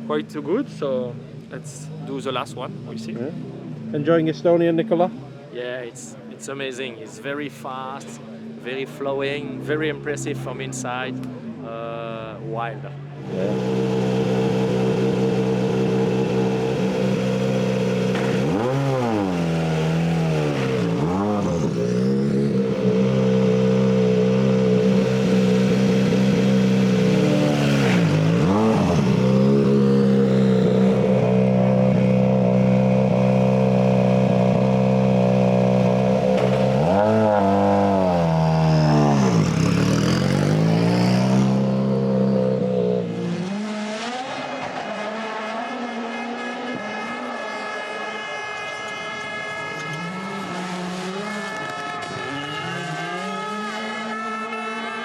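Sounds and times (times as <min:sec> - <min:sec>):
rally car engine revving: 0:06.1 - 0:55.0.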